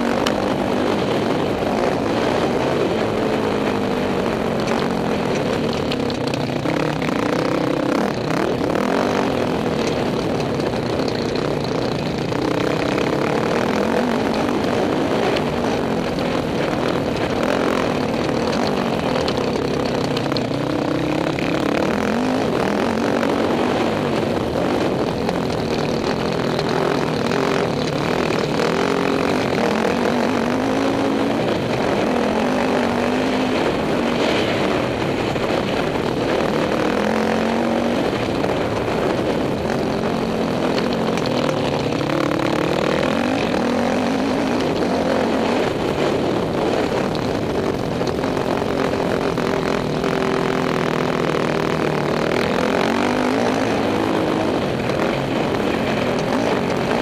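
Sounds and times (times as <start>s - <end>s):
dirt bike engine revving: 0.0s - 57.0s
wind noise on microphone: 0.0s - 57.0s.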